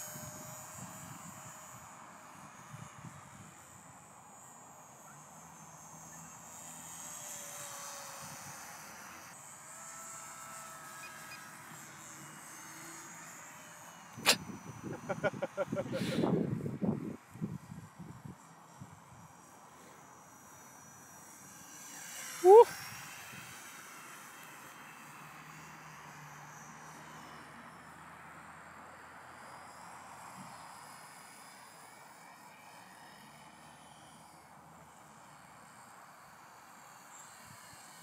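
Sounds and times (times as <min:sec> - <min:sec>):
model plane motor whine: 0:00.0 - 0:38.0.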